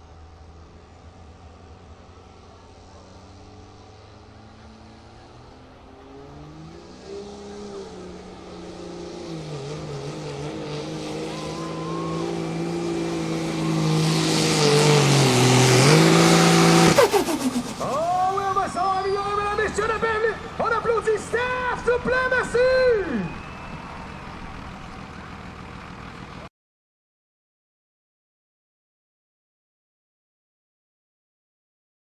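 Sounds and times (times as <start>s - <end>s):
diesel pickup engine high revs: 0.0s - 26.5s.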